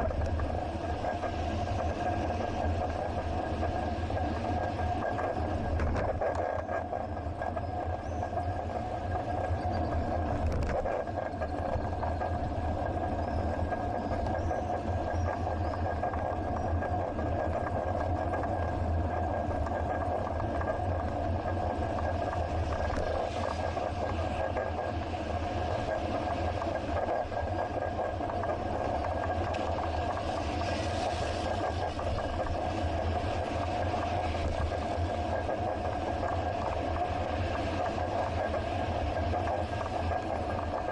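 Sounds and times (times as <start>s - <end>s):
thin whine: 0.0s - 40.9s
wind and road noise: 0.0s - 40.9s.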